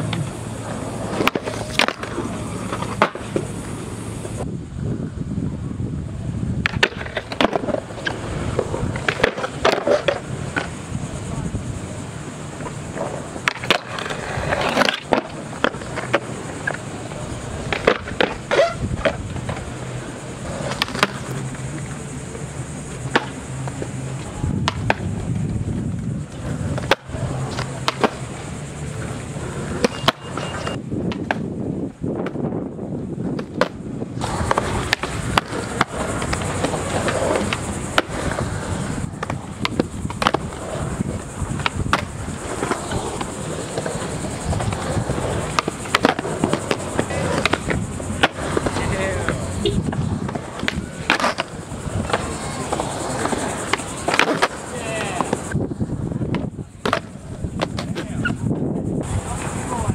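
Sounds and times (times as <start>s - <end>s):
skateboard grinding on concrete ledge: 0.0s - 4.4s, 6.6s - 31.6s, 32.3s - 59.9s
skateboard clacks: 0.0s - 4.5s, 6.1s - 59.9s
skateboard wheels rolling on concrete: 0.0s - 59.9s.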